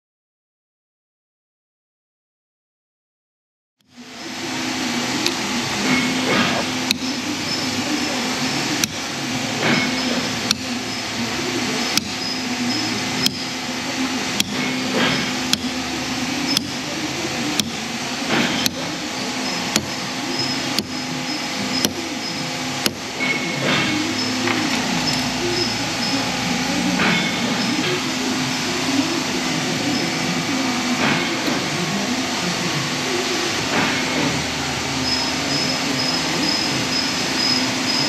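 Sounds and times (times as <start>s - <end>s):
steady machine hum: 3.8s - 38.0s.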